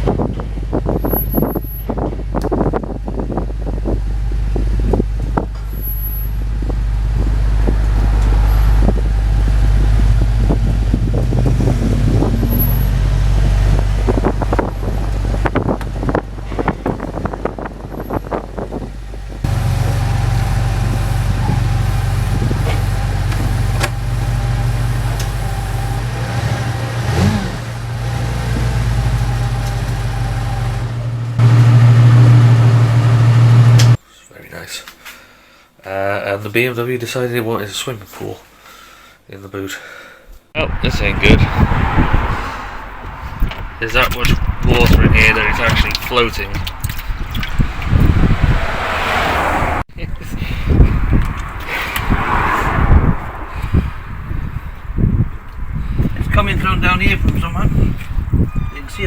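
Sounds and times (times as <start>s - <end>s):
car engine and road noise: 0.0s - 34.0s, 40.5s - 59.0s.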